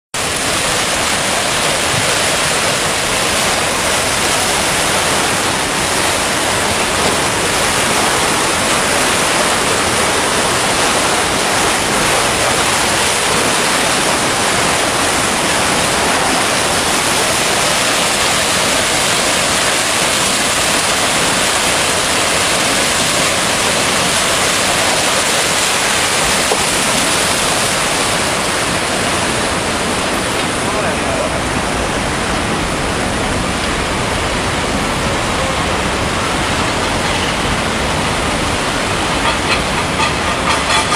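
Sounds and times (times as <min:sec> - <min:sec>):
storm wind and water rushing: 0:00.1 - 0:40.9.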